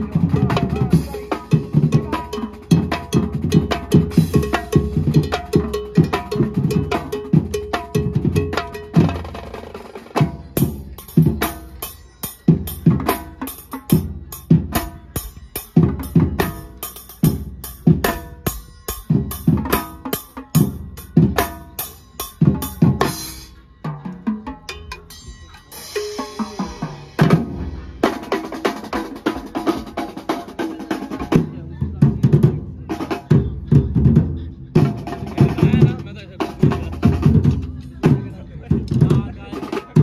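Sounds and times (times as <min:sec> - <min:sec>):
snare and bass drums playing: 0:00.0 - 0:40.0.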